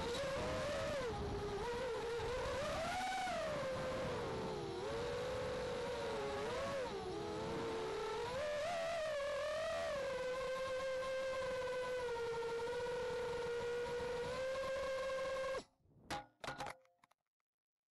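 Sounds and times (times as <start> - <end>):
quadcopter propellers whining: 0.0 - 15.6.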